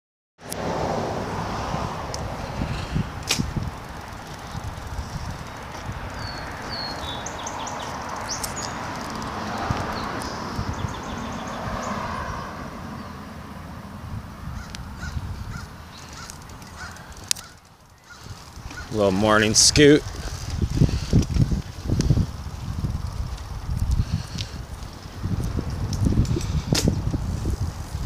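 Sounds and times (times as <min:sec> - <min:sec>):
bicycle tyres rolling on asphalt: 0:00.5 - 0:28.0
wind on phone microphone: 0:01.4 - 0:07.8, 0:08.5 - 0:12.5, 0:14.0 - 0:17.5, 0:18.1 - 0:28.0.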